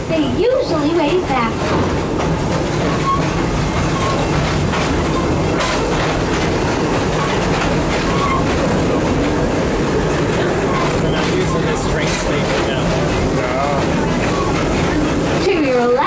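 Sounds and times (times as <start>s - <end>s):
train cars rumbling: 0.0s - 16.0s
wheels clicking over rails: 0.0s - 16.0s.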